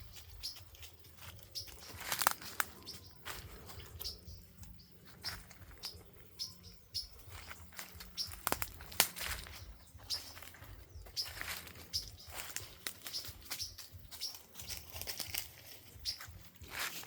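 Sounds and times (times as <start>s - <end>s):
footsteps crunching dry leaves: 0.0s - 17.0s.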